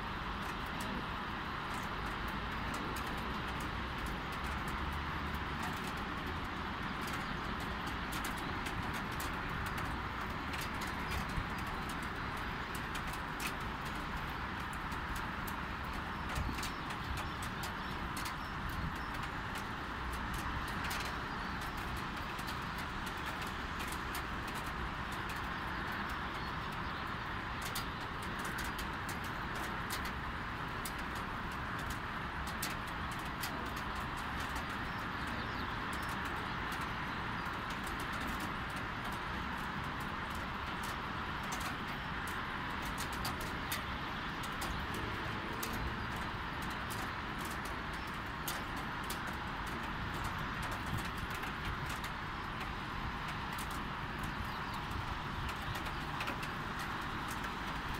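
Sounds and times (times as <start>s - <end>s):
distant traffic hum: 0.0s - 57.9s
light rain falling: 0.0s - 57.9s
raindrops ticking close by: 0.0s - 57.9s.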